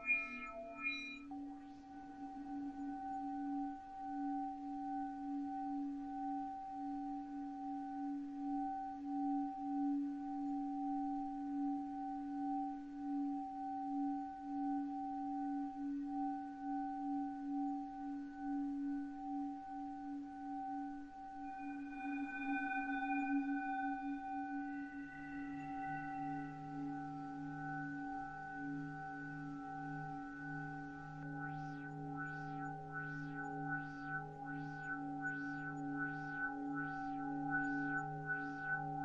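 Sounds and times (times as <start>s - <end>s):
ringing drone of pulsing tones: 0.0s - 39.0s.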